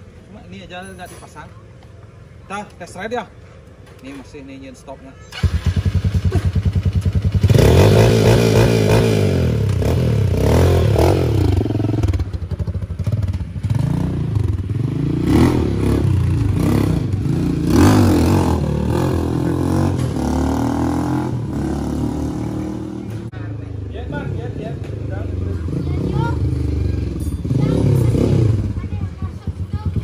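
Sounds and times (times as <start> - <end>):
motorcycle engine revving: 5.3 - 30.0.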